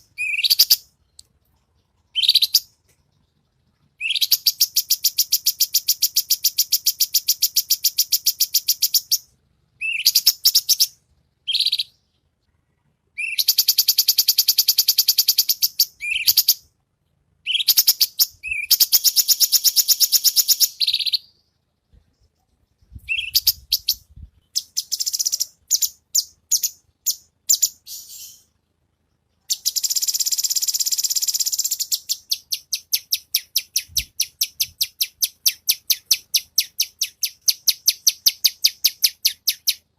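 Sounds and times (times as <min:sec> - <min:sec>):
songbird trilling and chirping: 0:00.0 - 0:12.3, 0:13.2 - 0:16.7, 0:17.4 - 0:39.9.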